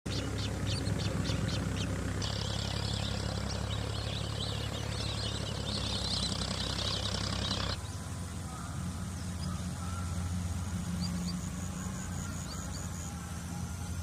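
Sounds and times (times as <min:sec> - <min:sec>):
low hum: 0:00.1 - 0:14.0
small birds chirping: 0:00.1 - 0:14.0.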